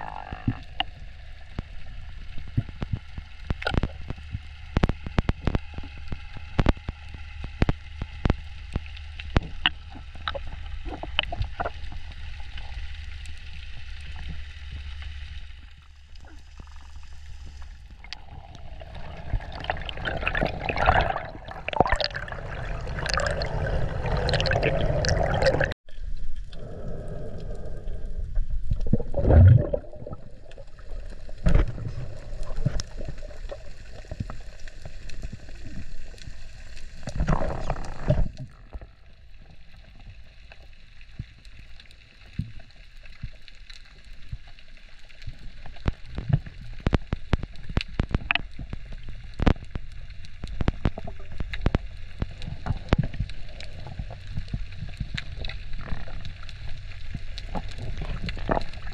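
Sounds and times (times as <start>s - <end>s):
muffled underwater water noise: 0.0s - 58.9s.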